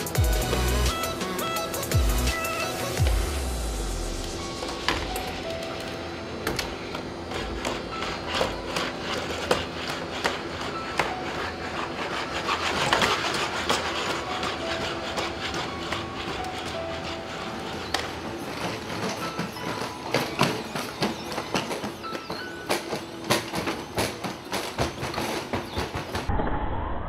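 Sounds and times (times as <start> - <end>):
robot electric motors whirring: 0.0 - 26.3.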